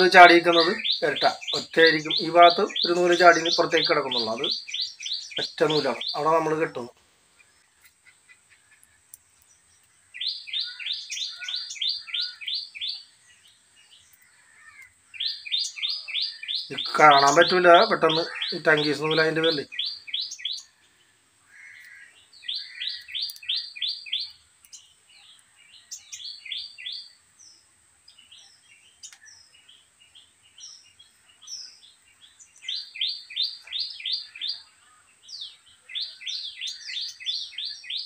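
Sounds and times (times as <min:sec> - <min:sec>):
bird chirping: 0:00.0 - 0:38.0.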